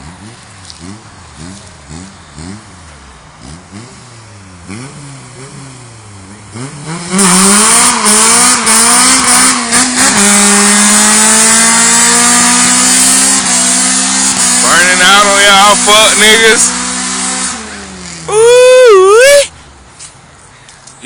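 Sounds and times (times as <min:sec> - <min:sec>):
car engine revving: 0:00.0 - 0:19.3.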